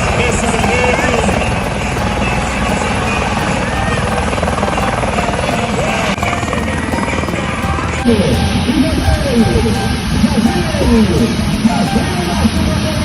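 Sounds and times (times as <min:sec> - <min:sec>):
faint voices: 0:00.0 - 0:13.0
helicopter engine noise: 0:00.0 - 0:13.0
helicopter rotor chopping: 0:00.0 - 0:13.0.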